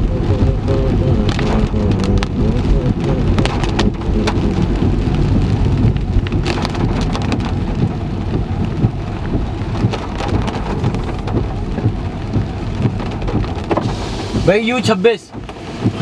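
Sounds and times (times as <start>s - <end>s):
heavy rain on a car: 0.0s - 16.0s
low rumble: 0.0s - 16.0s.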